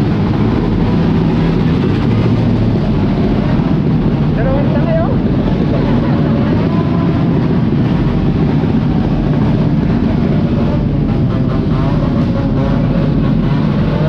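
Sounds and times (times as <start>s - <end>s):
motorcycle engines idling: 0.0s - 14.0s
crowd voices: 1.9s - 14.0s.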